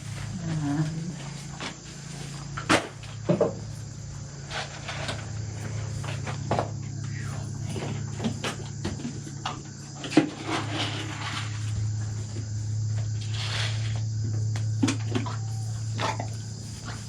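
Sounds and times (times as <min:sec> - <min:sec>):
insects chirring: 0:00.0 - 0:17.0
low even hum: 0:00.0 - 0:17.0.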